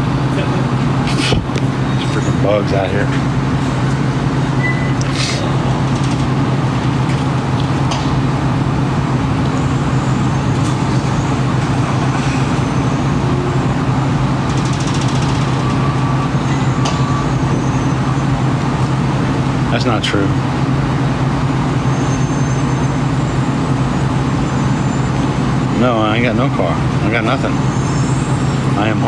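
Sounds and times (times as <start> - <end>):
low mechanical hum: 0.0 - 29.0
road traffic: 0.0 - 29.0.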